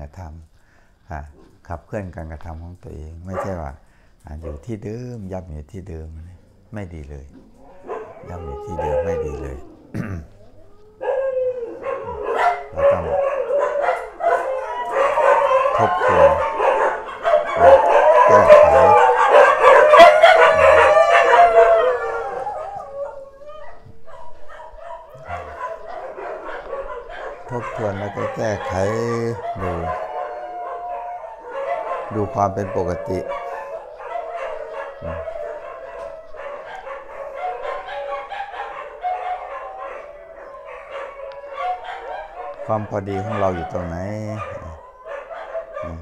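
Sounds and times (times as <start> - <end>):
dogs howling: 1.1 - 46.0.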